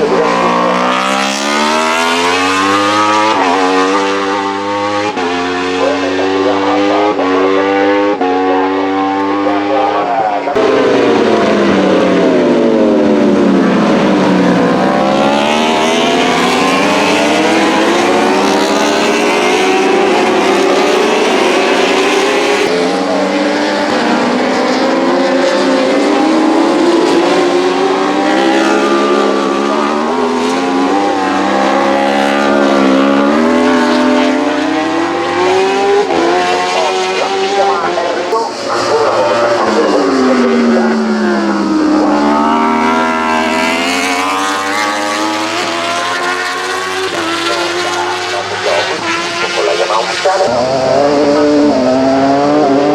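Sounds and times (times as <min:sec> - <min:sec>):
racing motorcycles passing: 0:00.0 - 0:52.9.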